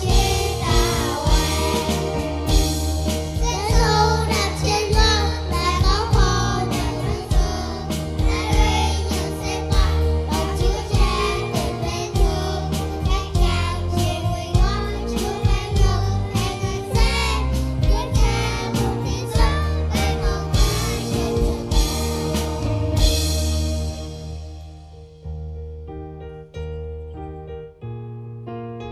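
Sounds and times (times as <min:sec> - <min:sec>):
children singing: 0:00.0 - 0:23.6
accompaniment with steady beat: 0:00.0 - 0:25.5.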